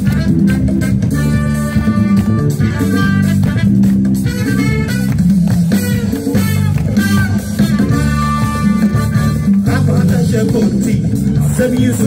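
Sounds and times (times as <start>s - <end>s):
brass section horn notes: 0.0s - 9.9s
bass guitar line: 0.0s - 12.0s
live band music: 0.0s - 12.0s.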